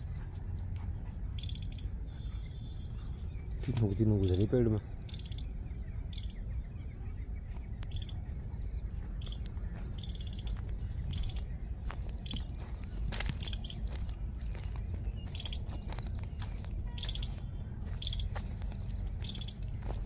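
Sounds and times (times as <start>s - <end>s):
bird chirping: 1.0s - 20.0s.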